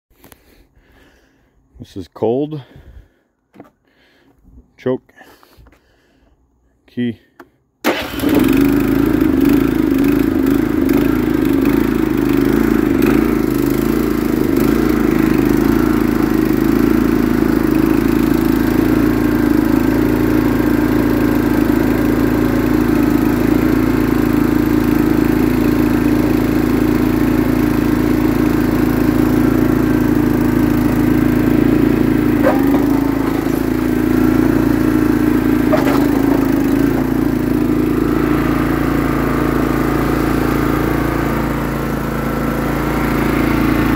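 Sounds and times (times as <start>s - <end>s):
snowblower engine running: 7.8s - 43.9s.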